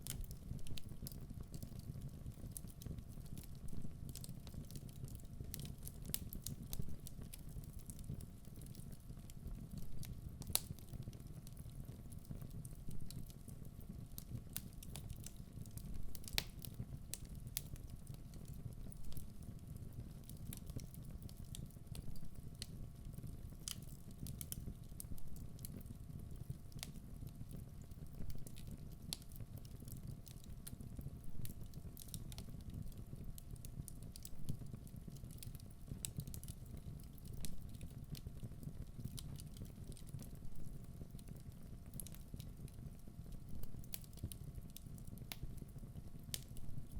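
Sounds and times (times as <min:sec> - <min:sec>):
burning wood crackling and popping: 0:00.0 - 0:46.9
fire rumbling in fireplace: 0:00.0 - 0:46.9.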